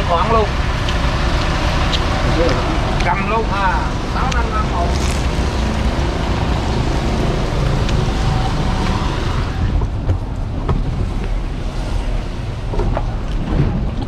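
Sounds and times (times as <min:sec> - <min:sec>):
bus low rumble: 0:00.0 - 0:14.0
rushing street noise: 0:00.0 - 0:14.0.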